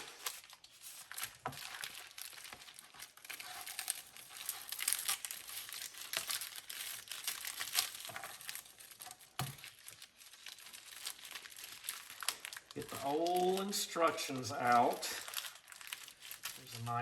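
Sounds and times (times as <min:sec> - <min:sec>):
packaging crinkling and rustling: 0:00.0 - 0:17.0.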